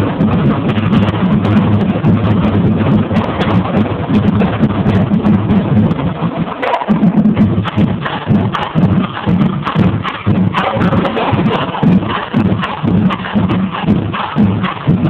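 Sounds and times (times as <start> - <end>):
deep bass drum tones: 0.0 - 15.0
marching drumline: 0.0 - 15.0.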